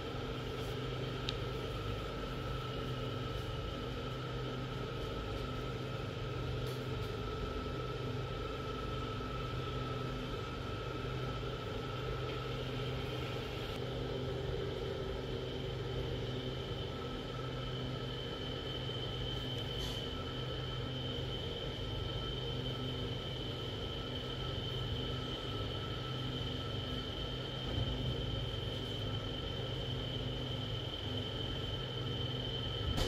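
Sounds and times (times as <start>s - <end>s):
faint whining tones: 0.0s - 33.0s
low hum and hiss: 0.0s - 33.0s.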